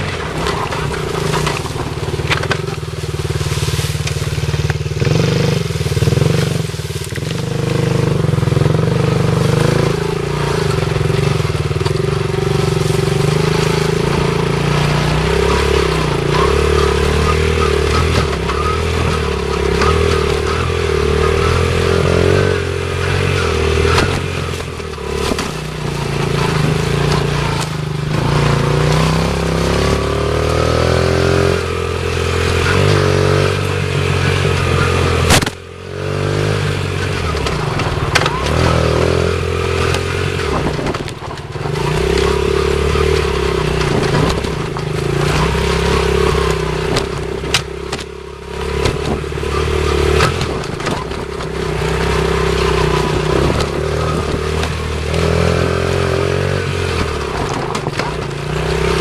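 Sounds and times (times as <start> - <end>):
clatter from bumps: 0.0 - 59.0
dirt bike engine revving: 0.0 - 59.0.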